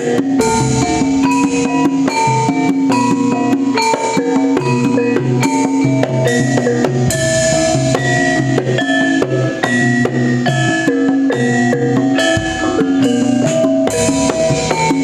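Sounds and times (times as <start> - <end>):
drum strokes: 0.0 - 15.0
metallophones playing struck notes: 0.0 - 15.0.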